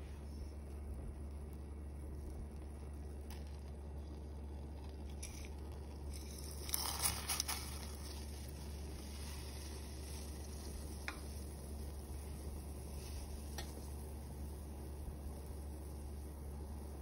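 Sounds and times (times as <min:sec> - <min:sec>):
low steady hum: 0:00.0 - 0:17.0
water boiling in a pot: 0:00.0 - 0:17.0
dry spices pattering into water: 0:00.7 - 0:17.0.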